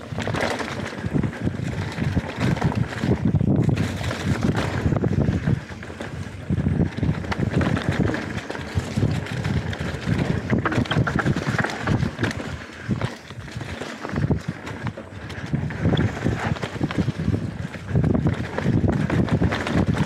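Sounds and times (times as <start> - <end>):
bike clicks and rattles: 0.0 - 20.0
bike tyre noise: 0.0 - 20.0
wind buffeting microphone: 0.0 - 20.0.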